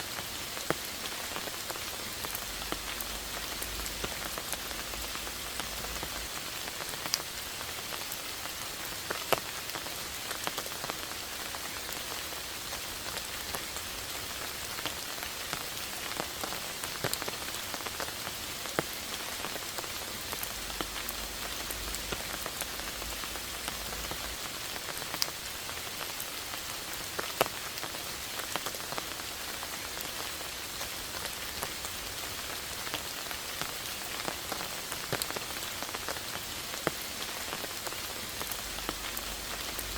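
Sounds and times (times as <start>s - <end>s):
rain pattering: 0.0s - 39.9s
close raindrops landing: 0.2s - 39.9s.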